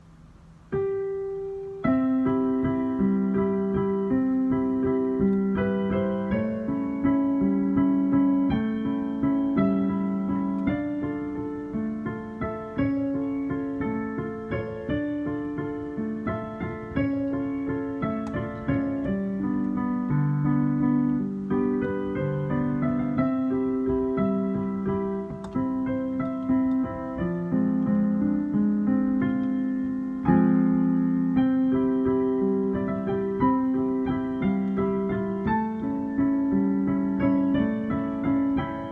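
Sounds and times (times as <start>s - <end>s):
piano playing: 0.0s - 38.9s.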